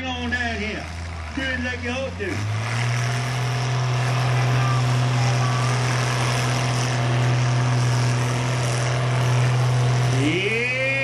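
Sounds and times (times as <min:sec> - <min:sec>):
tractor engine under full load: 0:00.0 - 0:11.0.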